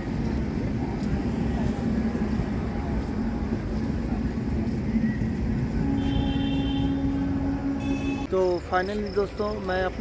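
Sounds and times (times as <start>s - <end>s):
train coaches rumbling on rails: 0.0s - 10.0s.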